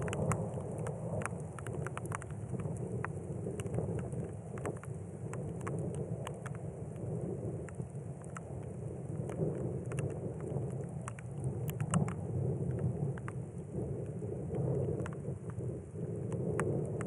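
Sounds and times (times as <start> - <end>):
distant thunder rumble: 0.0 - 17.0
rain falling: 0.0 - 17.0
raindrops ticking: 0.0 - 17.0.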